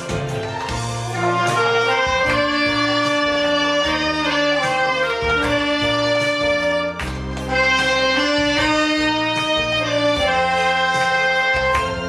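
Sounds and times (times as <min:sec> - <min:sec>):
backing track with bass and strings: 0:00.0 - 0:12.0
saxophone melody: 0:00.0 - 0:12.0.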